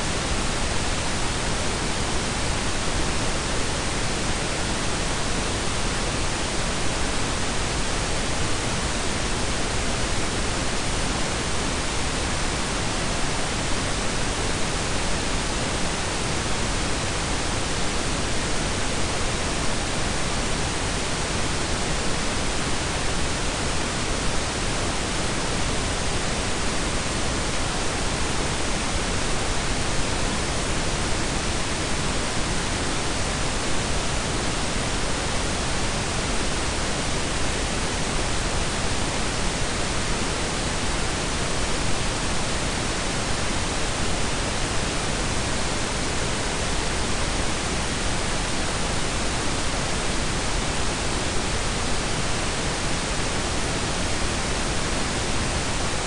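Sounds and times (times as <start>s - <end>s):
pink and brown noise hiss: 0.0s - 56.0s.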